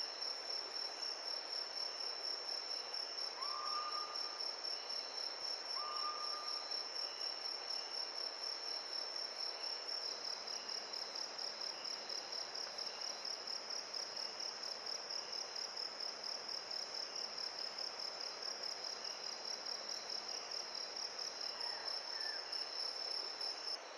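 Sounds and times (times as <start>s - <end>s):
background hiss: 0.0s - 23.9s.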